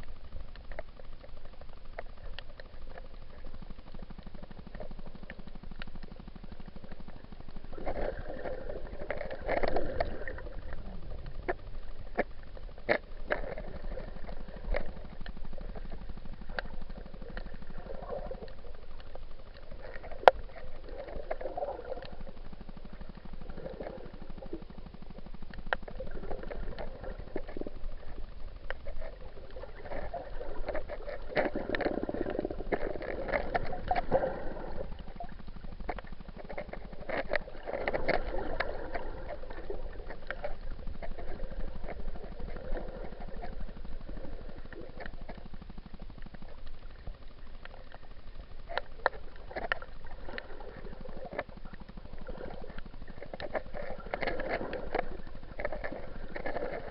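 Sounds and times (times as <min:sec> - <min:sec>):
small clicks: 0:00.0 - 0:56.9
underwater gurgling and bubbling: 0:00.0 - 0:56.9.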